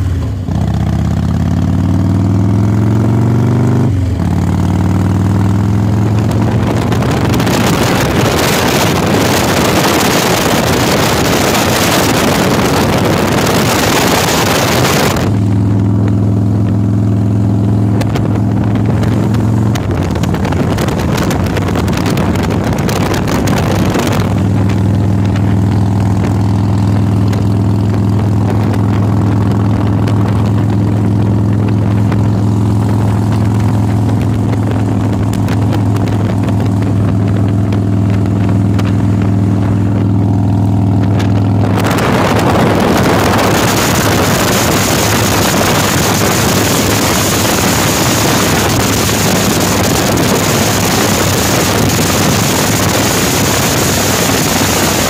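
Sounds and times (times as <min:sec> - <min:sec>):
motorcycle engine cruising: 0:00.0 - 0:55.0
wind noise on microphone: 0:02.0 - 0:55.0.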